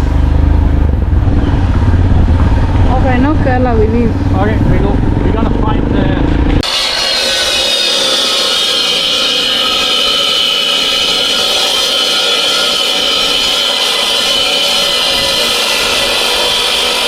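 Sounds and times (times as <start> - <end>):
motorised saw cutting stone: 3.0 - 17.0.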